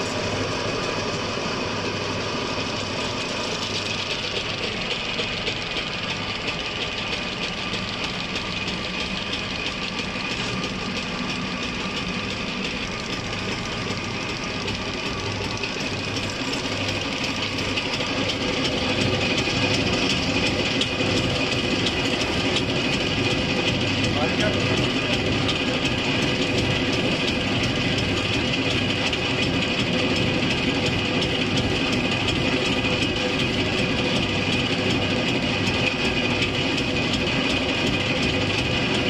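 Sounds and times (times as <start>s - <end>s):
diesel injection pump running: 0.0s - 39.0s.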